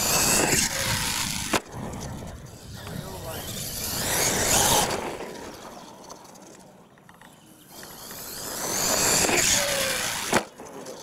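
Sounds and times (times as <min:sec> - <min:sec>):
toy truck motor whining: 0:00.0 - 0:11.0.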